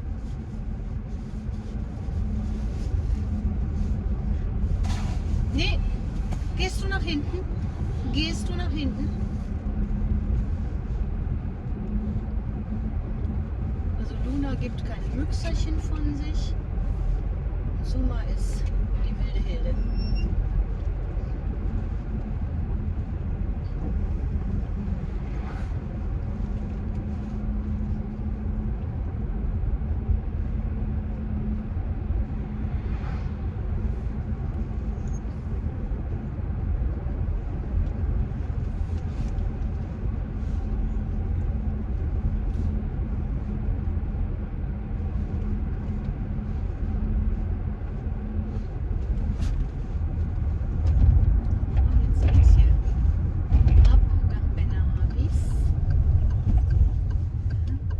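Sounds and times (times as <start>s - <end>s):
car road and engine noise: 0.0s - 57.9s.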